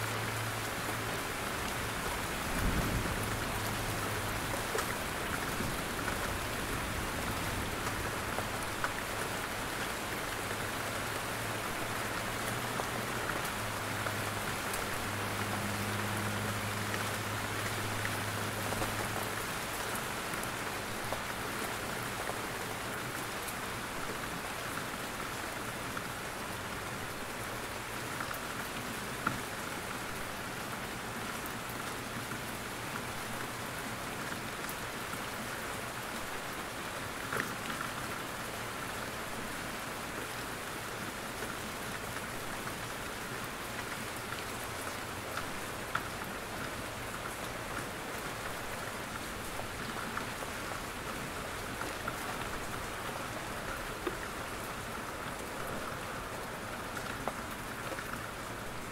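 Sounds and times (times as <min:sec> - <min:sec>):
rain falling in forest: 0:00.0 - 0:58.9.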